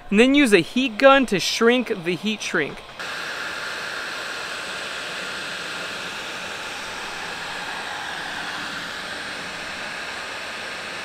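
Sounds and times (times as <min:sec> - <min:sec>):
heat gun blowing air: 0:01.6 - 0:11.0.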